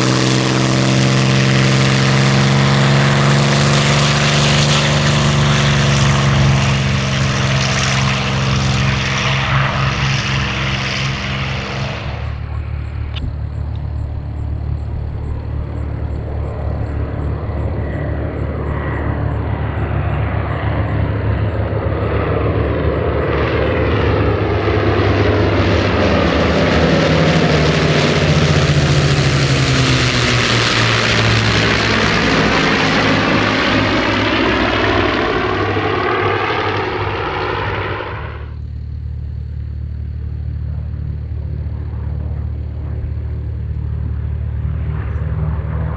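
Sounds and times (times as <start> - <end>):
propeller plane engine in flight: 0.0 - 45.9.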